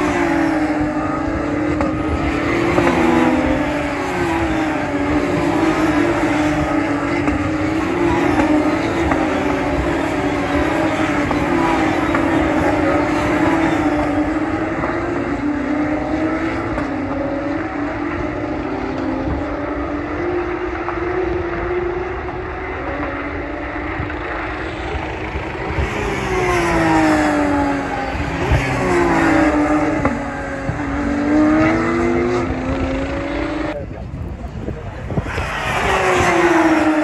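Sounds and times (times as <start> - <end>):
race car engines at speed: 0.0 - 37.0
race cars passing: 0.0 - 37.0.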